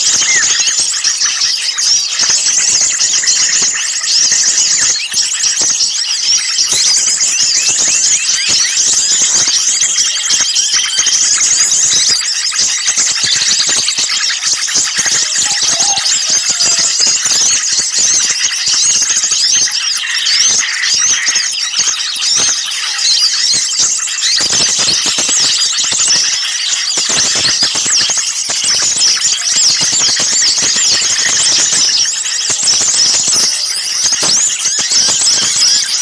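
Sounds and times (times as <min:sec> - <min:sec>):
small birds chirping and whistling: 0:00.0 - 0:36.0.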